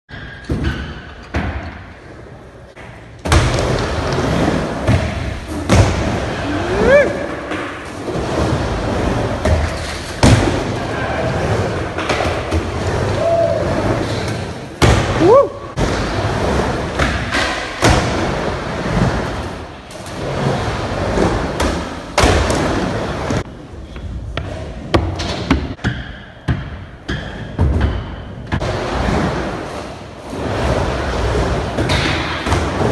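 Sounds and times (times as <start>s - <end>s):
skateboard wheels rolling: 2.0s - 25.8s, 28.5s - 32.9s.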